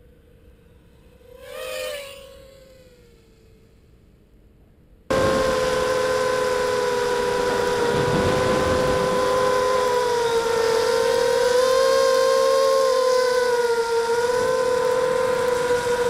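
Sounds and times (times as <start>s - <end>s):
drone motors whining: 0.0s - 4.3s, 5.1s - 16.0s.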